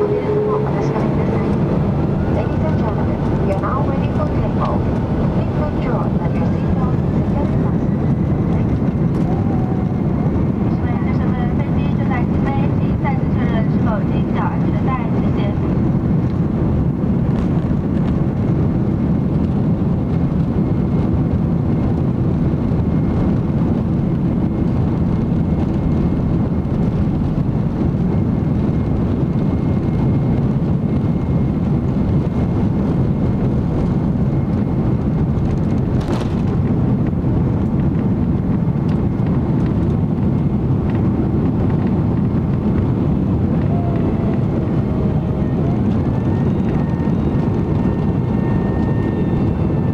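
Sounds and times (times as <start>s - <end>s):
airplane cabin engine rush: 0.0s - 49.9s.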